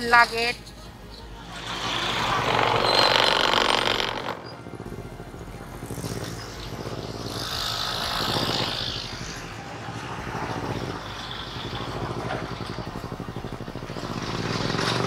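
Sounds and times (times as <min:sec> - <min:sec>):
vehicle engine running: 0:00.0 - 0:15.0
hissing rush: 0:01.3 - 0:14.8.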